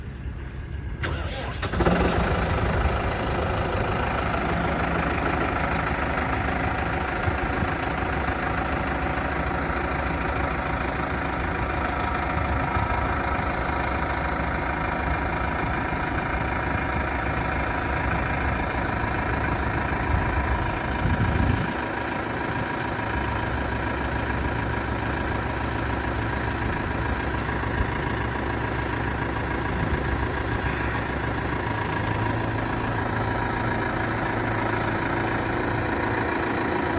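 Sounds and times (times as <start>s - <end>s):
tractor engine idling: 0.0s - 36.9s.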